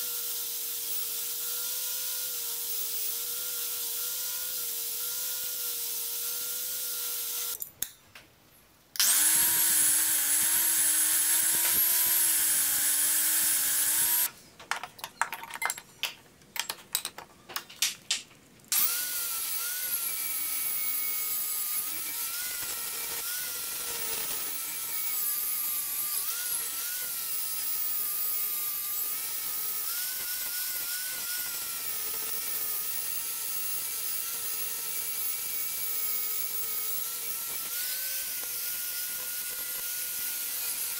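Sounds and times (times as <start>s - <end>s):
angle grinder grinding metal: 0.0s - 7.6s, 9.0s - 14.3s, 18.7s - 40.9s.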